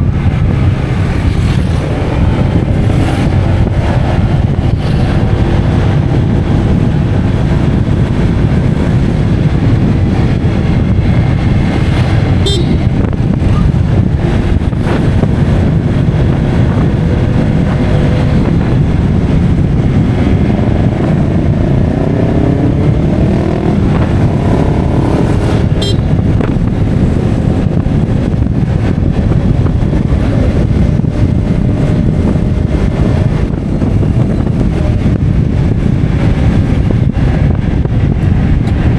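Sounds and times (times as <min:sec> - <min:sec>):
motorcycle engine: 0:00.0 - 0:38.9
road noise: 0:00.0 - 0:38.9
wind rumble on microphone: 0:00.0 - 0:38.9.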